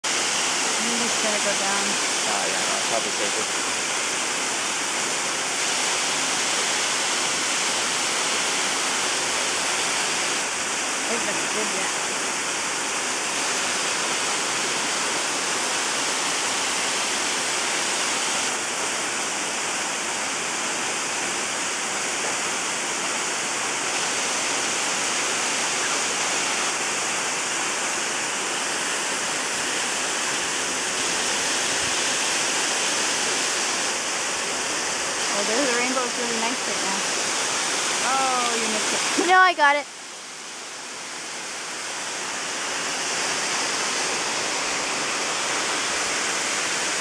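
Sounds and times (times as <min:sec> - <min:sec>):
waterfall pouring into pond: 0:00.0 - 0:47.0.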